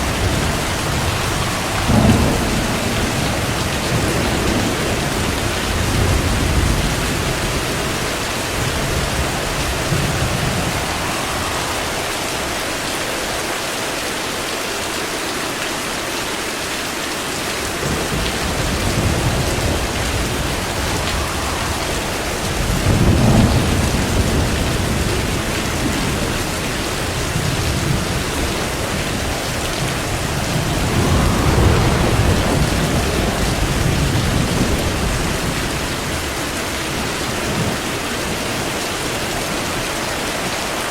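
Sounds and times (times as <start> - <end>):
rolling thunder: 0.0 - 14.1, 17.5 - 39.9
heavy rain: 0.0 - 40.9.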